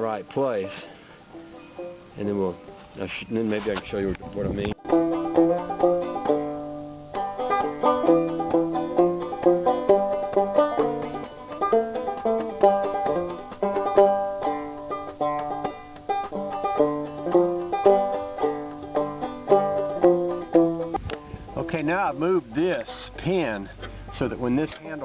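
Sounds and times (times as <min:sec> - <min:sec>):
plucked string tune: 0:00.0 - 0:03.0, 0:04.5 - 0:21.7.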